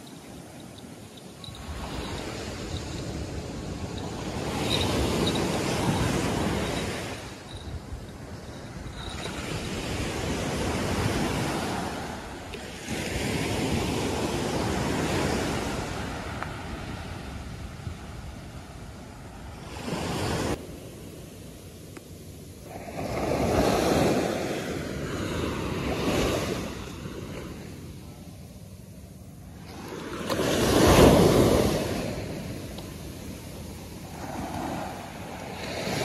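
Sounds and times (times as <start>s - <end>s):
ocean surf washing up beach: 0.0s - 21.0s, 22.6s - 28.0s, 29.5s - 36.0s.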